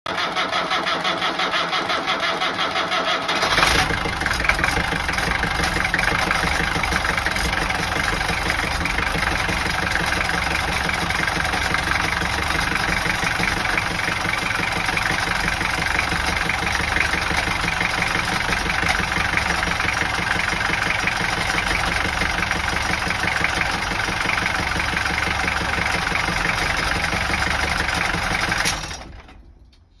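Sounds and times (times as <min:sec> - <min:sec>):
starter motor cranking: 0:00.1 - 0:29.3
diesel engine idling: 0:00.2 - 0:29.0.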